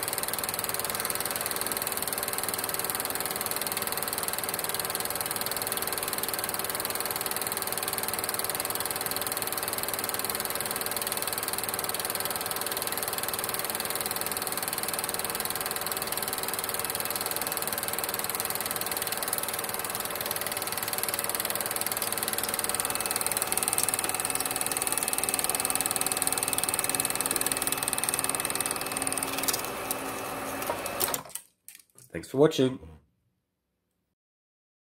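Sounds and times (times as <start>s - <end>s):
film projector whirring and clattering: 0.0s - 31.5s.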